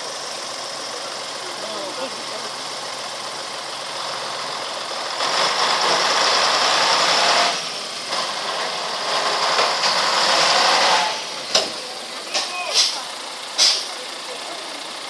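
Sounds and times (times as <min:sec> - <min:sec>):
tow truck diesel engine running: 0:00.0 - 0:15.0.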